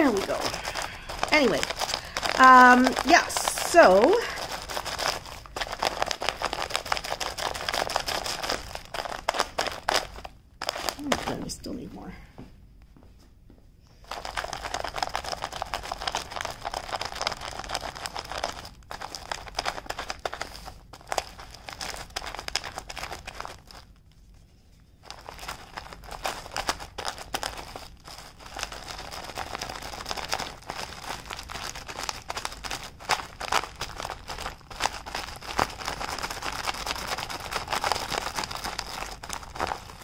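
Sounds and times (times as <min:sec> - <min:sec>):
tissue rubbing on plastic: 0:00.0 - 0:11.4, 0:14.0 - 0:40.0
tissue crinkling: 0:00.0 - 0:11.7, 0:14.0 - 0:40.0.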